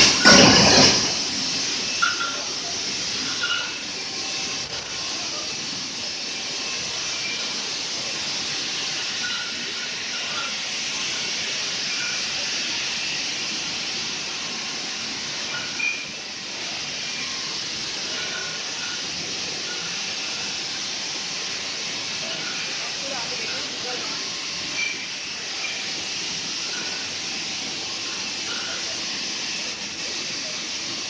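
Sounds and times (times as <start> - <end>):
bottling machinery hiss: 0.0 - 31.0.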